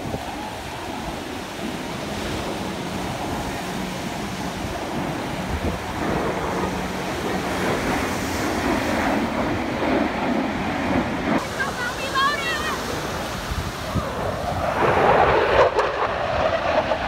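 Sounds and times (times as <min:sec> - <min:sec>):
jet engines rushing overhead: 0:00.0 - 0:17.0.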